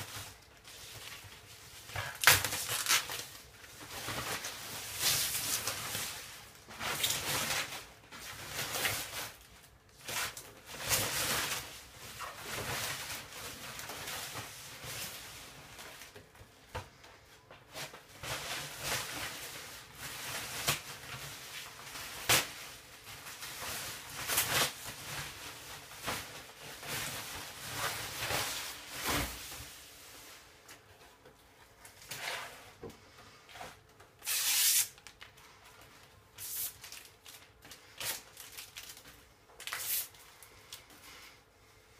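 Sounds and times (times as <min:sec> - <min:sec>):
plastic wrapping rustling: 0:00.0 - 0:41.4.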